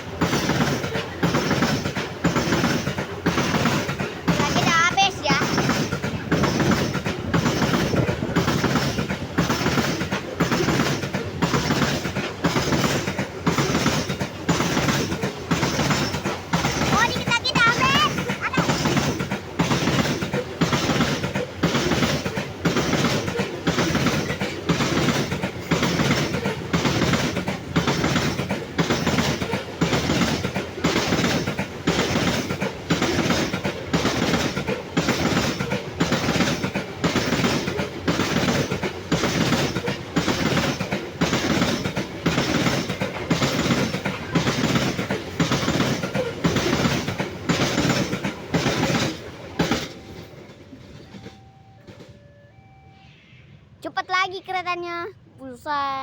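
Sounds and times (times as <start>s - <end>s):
train wheels clattering over rail joints: 0.0s - 52.2s.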